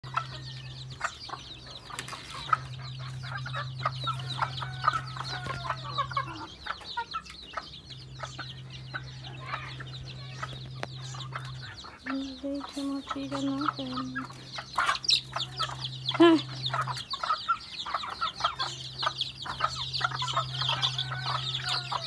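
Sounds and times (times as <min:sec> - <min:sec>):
chicks peeping: 0:00.0 - 0:22.0
hens and roosters clucking: 0:00.0 - 0:22.0
steady low hum: 0:00.1 - 0:22.0.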